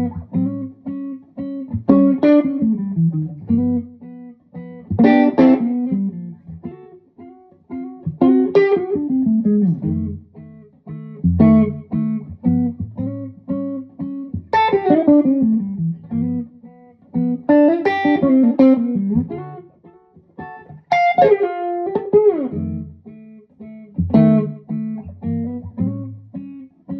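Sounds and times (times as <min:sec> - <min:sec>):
electric guitar chords and notes: 0:00.0 - 0:26.9.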